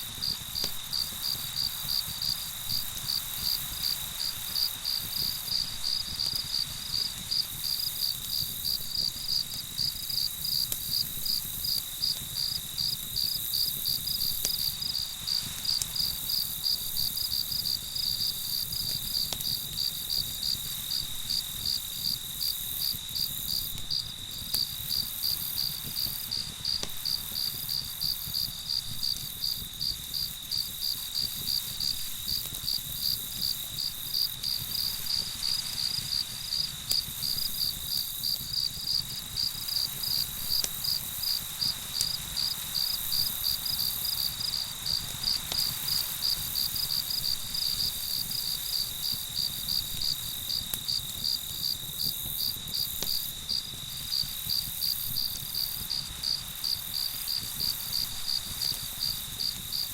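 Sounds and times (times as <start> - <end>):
crickets trilling: 0.0 - 59.9
faint campfire crackle: 0.0 - 59.9
rhythmic cricket chirping: 0.1 - 59.9.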